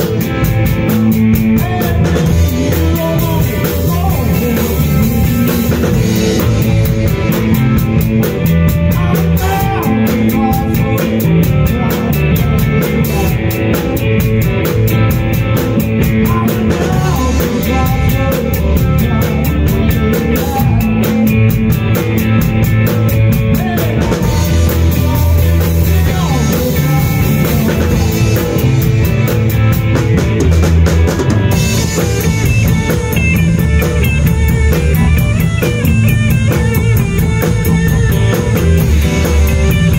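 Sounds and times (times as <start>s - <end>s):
drum kit with cymbal beats: 0.0s - 39.9s
electric bass: 0.0s - 39.9s
electric guitar: 0.0s - 39.9s.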